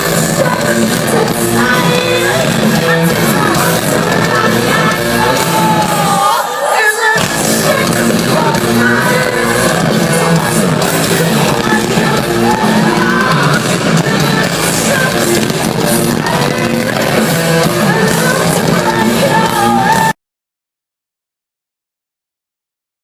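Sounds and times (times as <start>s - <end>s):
heavy metal band playing: 0.0s - 20.2s
vocalist singing and shouting: 0.0s - 20.2s.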